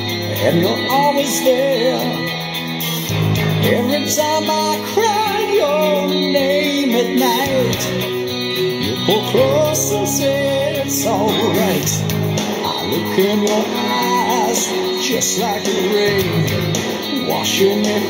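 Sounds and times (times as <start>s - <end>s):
song with singer guitar and bass: 0.0s - 18.0s.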